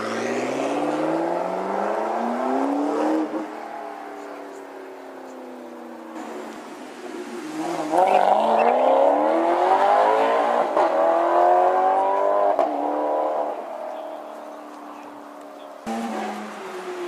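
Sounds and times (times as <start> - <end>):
sports car engine revving: 0.0 - 4.6, 6.0 - 17.0.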